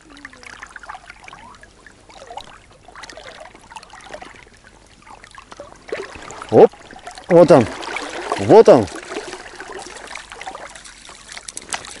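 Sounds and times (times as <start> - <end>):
river water trickling: 0.0 - 12.0
small water splashes: 0.0 - 12.0.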